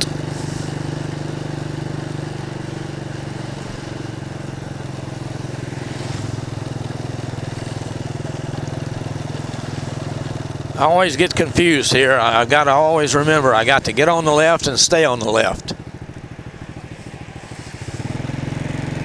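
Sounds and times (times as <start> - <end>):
motorcycle engine cruising: 0.0 - 19.0
road noise: 0.0 - 19.0.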